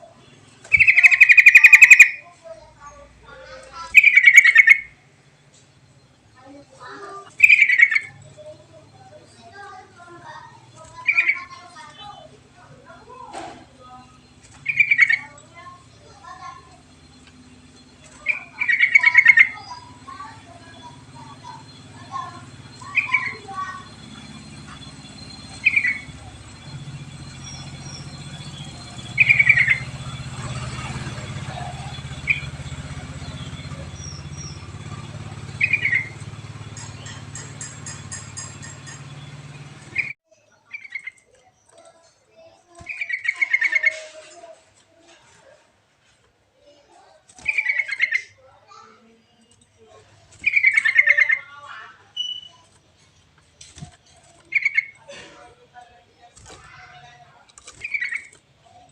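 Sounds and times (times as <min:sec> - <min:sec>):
bird bubbly call phrases: 0:00.0 - 0:41.3, 0:42.5 - 0:44.1, 0:47.3 - 0:48.5, 0:49.8 - 0:52.8, 0:53.8 - 0:55.2, 0:56.3 - 0:58.9
bulbul song: 0:00.0 - 0:41.3, 0:42.5 - 0:44.2, 0:47.3 - 0:48.4, 0:49.4 - 0:55.1, 0:56.2 - 0:58.9
faint high chirps: 0:00.0 - 0:45.6, 0:46.6 - 0:58.9.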